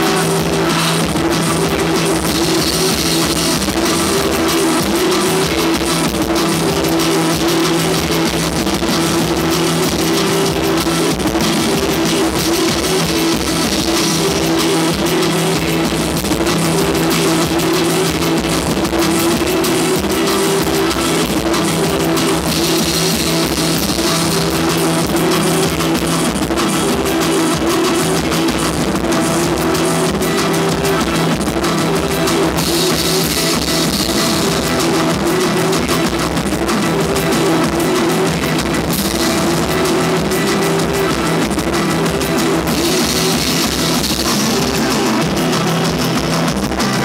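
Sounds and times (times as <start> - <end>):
drum kit with cymbals: 0.0 - 47.0
electric guitar: 0.0 - 47.0.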